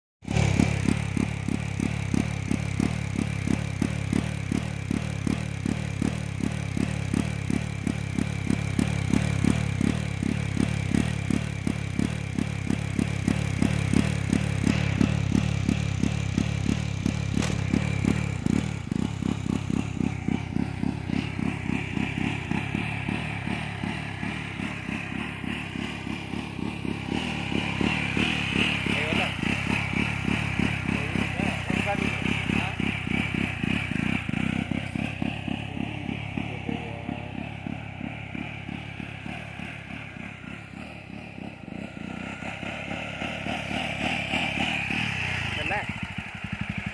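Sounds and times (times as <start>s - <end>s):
motorcycle engine running: 0.2s - 46.9s.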